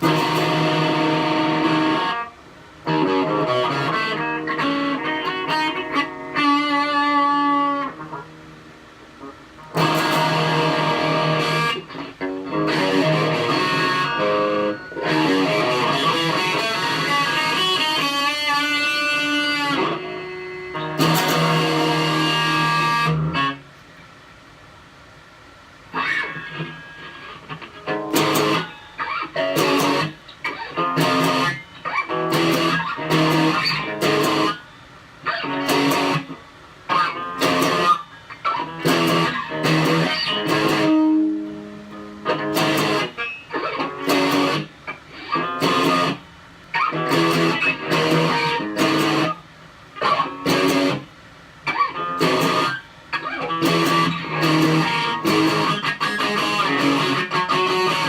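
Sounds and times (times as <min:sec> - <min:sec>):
electric guitar strumming chords: 0:00.0 - 0:23.8, 0:25.9 - 0:58.0.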